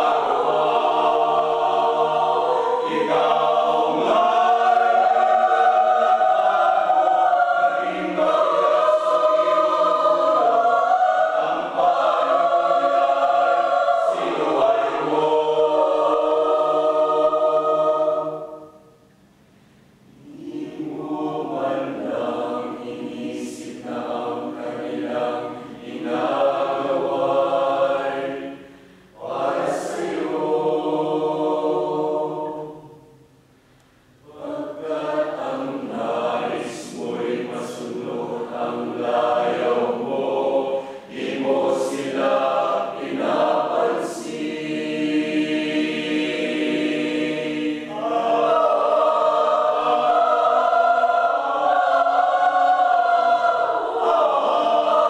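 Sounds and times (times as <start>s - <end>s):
mixed choir singing: 0.0s - 19.1s, 20.1s - 33.3s, 34.2s - 55.0s.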